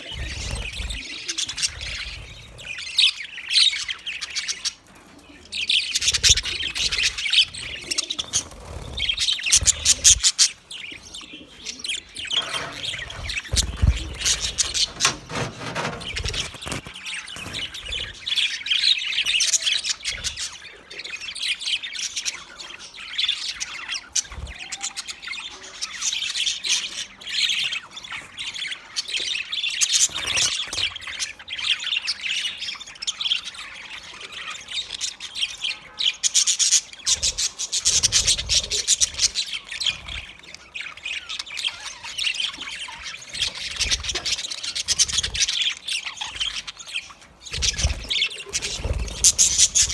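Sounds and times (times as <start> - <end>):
budgerigars chattering and squawking: 0.0 - 49.9.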